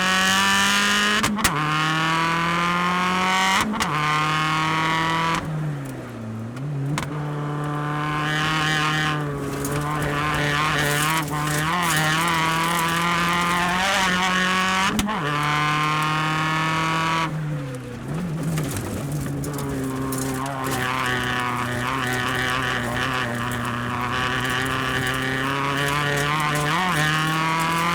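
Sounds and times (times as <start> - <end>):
race car engine at high revs: 0.0 - 27.9.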